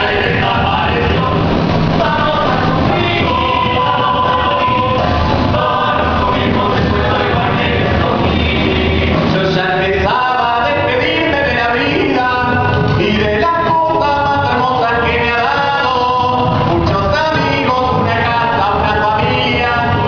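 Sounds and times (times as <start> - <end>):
song with band and singing: 0.0 - 20.0.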